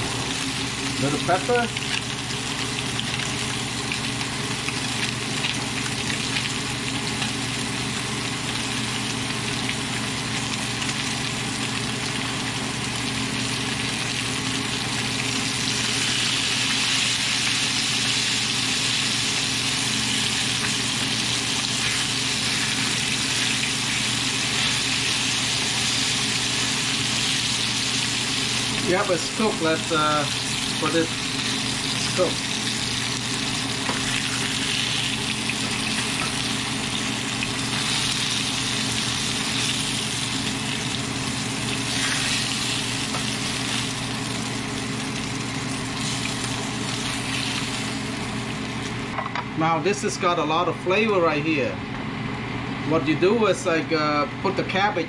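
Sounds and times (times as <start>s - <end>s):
fish sizzling in hot oil: 0.0s - 49.2s.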